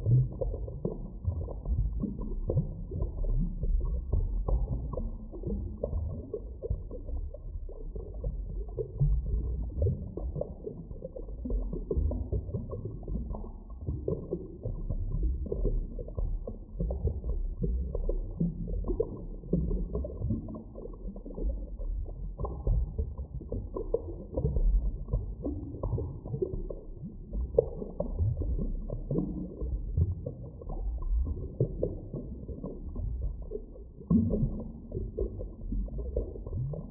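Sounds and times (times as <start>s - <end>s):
deep underwater rumble: 0.0s - 36.9s
underwater bubbling and gurgling: 0.0s - 36.9s.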